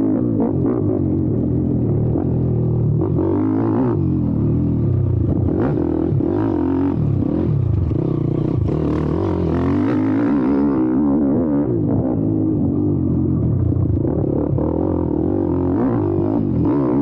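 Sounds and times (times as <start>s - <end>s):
pit bike engine revving: 2.1s - 13.0s, 13.8s - 17.0s.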